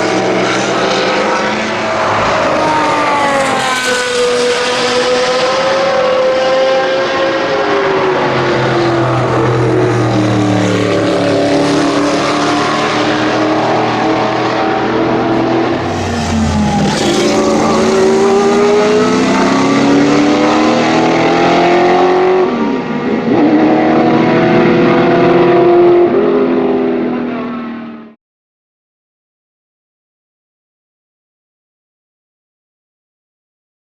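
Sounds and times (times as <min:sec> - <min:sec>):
race car engine revving: 0:00.0 - 0:28.2.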